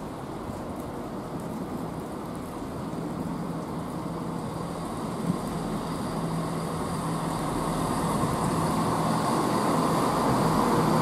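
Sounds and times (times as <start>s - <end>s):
diesel train engines humming: 0.0s - 11.0s
train wheel rush: 0.0s - 11.0s.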